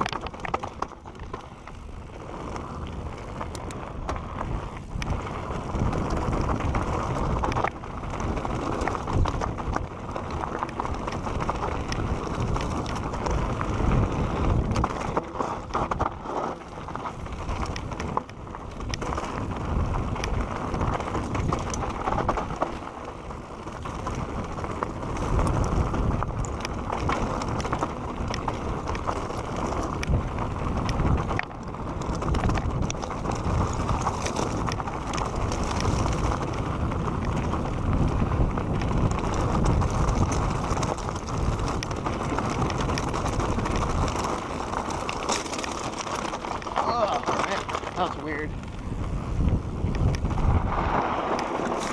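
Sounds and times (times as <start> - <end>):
wind on microphone: 0.0 - 22.8, 23.6 - 51.9
bike rattles and clicks: 0.0 - 51.9
bike tyres rolling over dirt: 0.0 - 51.9.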